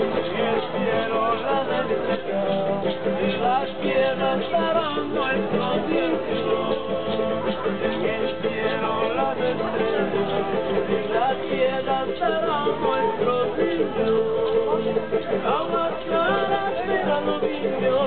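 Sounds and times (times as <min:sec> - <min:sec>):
acoustic guitar folk music: 0:00.0 - 0:18.0.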